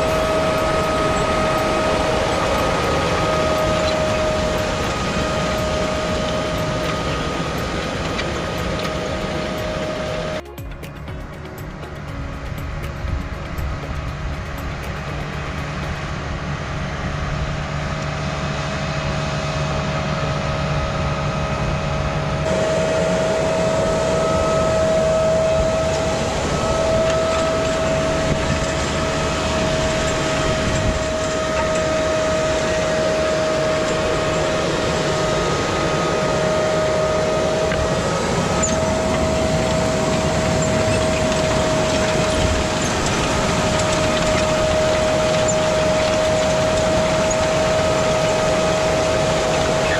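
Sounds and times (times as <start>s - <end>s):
steady whine: 0.0s - 49.9s
tractor engine under load: 0.0s - 49.9s.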